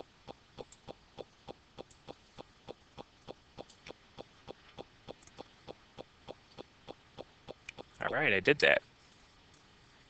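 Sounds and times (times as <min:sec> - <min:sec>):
faint steady ticking: 0:00.0 - 0:10.0.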